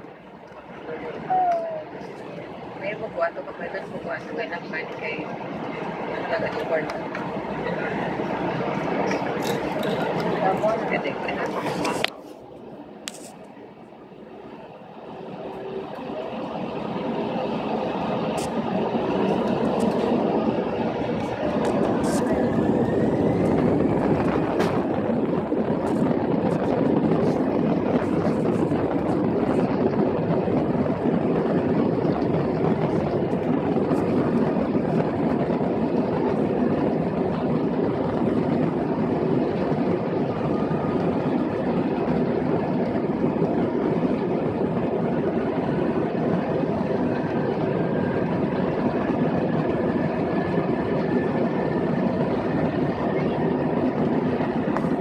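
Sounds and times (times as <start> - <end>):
jet engines rushing and whining: 0.0 - 55.0.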